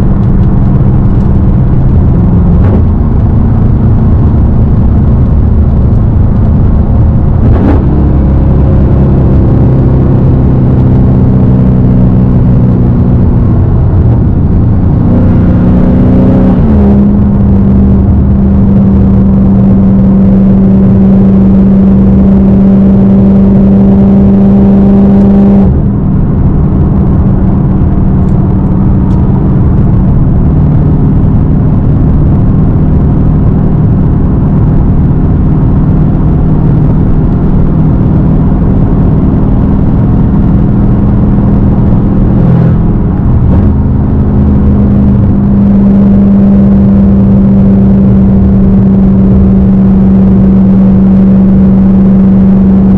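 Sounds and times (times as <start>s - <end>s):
car exhaust droning: 0.0s - 52.9s.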